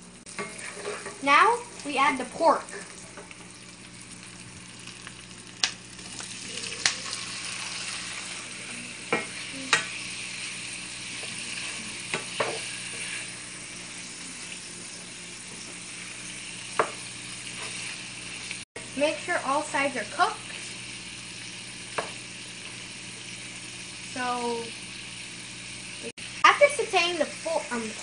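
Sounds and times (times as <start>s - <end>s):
meat sizzling in a frying pan: 0.0s - 28.0s.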